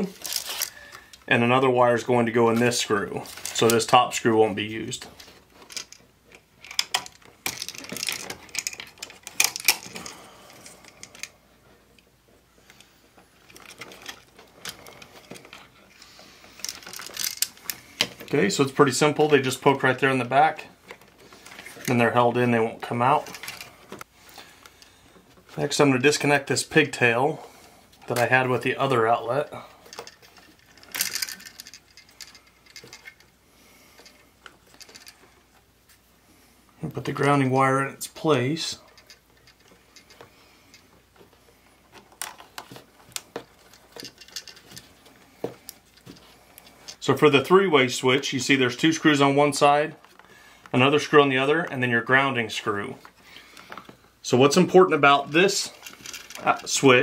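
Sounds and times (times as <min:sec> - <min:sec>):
wires clicking and scraping: 0:00.0 - 0:57.0.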